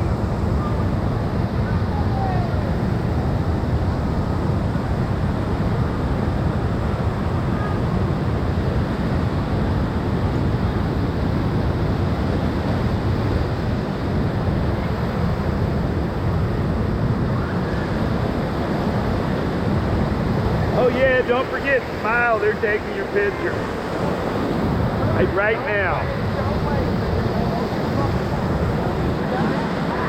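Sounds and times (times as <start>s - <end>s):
wind rumble on microphone: 0.0s - 22.0s, 23.5s - 30.0s
whitewater river rushing: 0.0s - 30.0s.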